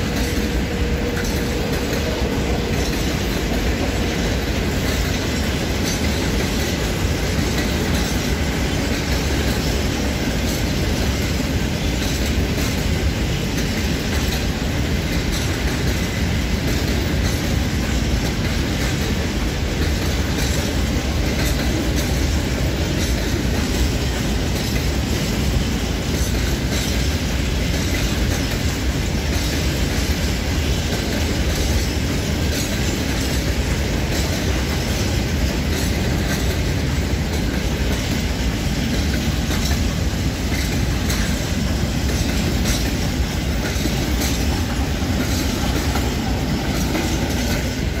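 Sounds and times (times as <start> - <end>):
freight train rolling past: 0.0 - 48.0
wheels clicking over rail joints: 0.0 - 48.0.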